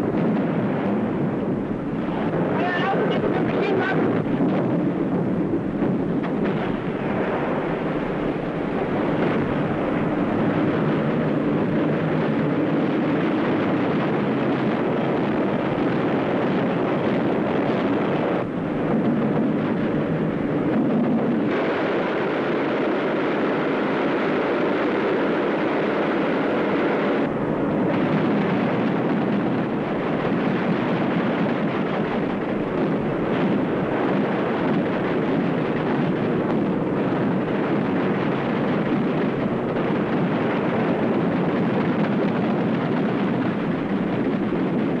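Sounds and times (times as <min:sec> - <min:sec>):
boat engine drone: 0:00.0 - 0:45.0
wind: 0:00.0 - 0:45.0.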